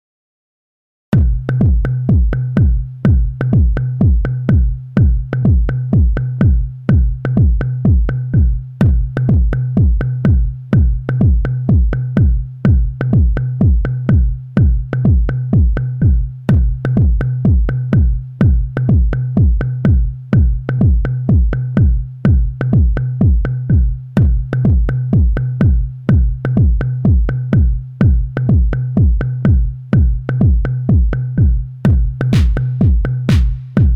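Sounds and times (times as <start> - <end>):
drum machine kick: 1.2 - 33.9
low synth bass drone: 1.2 - 33.9.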